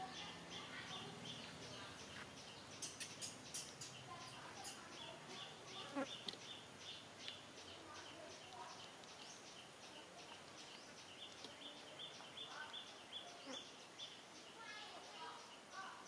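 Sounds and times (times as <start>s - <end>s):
fainter lower bird calls: 0.0s - 16.0s
rapid high bird chirping: 0.0s - 16.0s.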